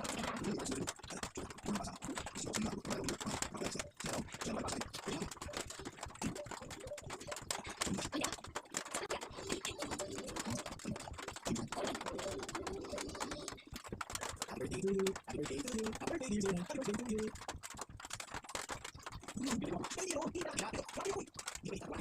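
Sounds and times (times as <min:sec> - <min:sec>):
rapid light clicking and tapping: 0:00.0 - 0:22.0.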